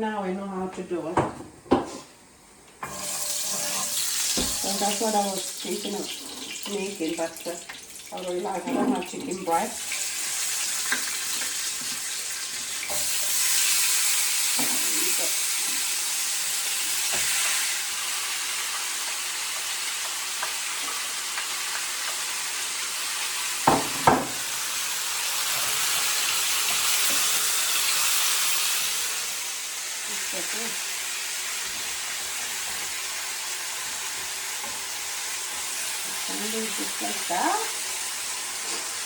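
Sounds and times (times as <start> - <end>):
meat sizzling in a pan: 2.8 - 39.0.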